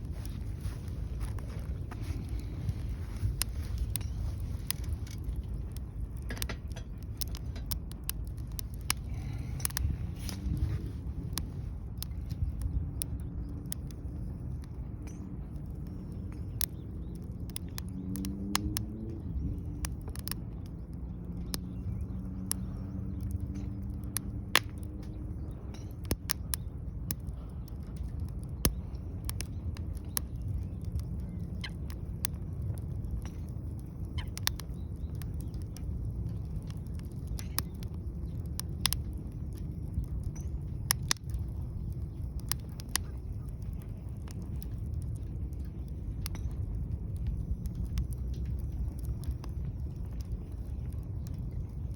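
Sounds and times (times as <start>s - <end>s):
low steady rumble: 0.0s - 51.9s
wood fire crackling and popping: 0.0s - 51.9s.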